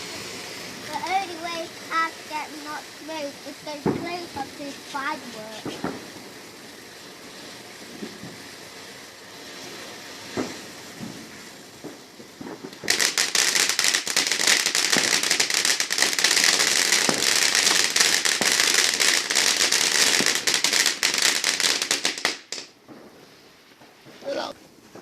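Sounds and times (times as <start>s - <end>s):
crackling firework pops: 0.0s - 25.0s.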